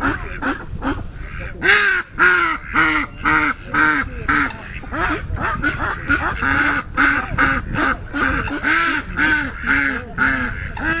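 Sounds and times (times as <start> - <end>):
waterfowl calling: 0.0 - 11.0.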